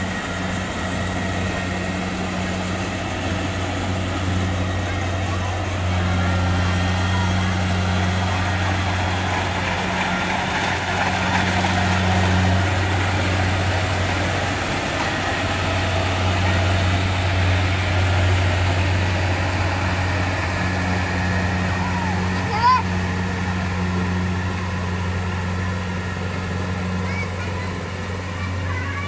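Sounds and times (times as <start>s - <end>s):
combine harvester engine humming: 0.0s - 29.0s.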